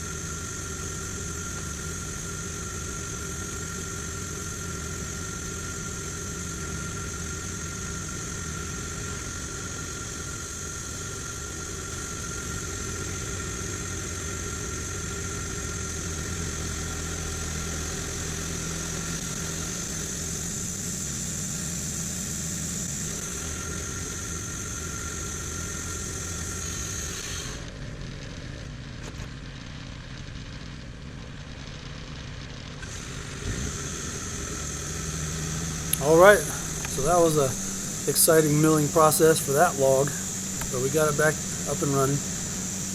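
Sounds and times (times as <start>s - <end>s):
high whine of band blade: 0.0s - 27.8s, 32.8s - 42.9s
sawmill engine running: 0.0s - 42.9s.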